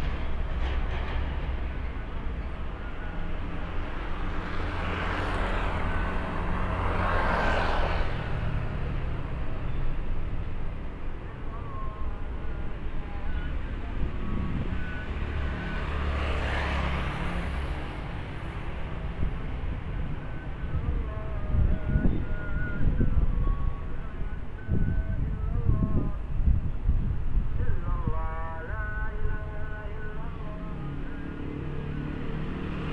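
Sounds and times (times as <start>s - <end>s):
traffic rumble: 0.0s - 32.9s
vehicles passing: 0.0s - 32.9s.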